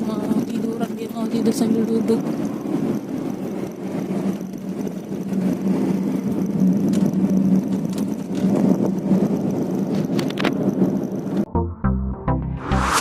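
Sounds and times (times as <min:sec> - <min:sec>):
engine and road hum: 0:00.0 - 0:13.0.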